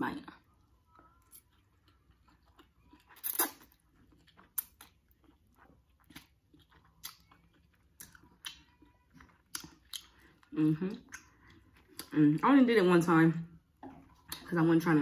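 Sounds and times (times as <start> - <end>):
chewing with wet smacks: 0.5 - 12.2, 13.8 - 14.5.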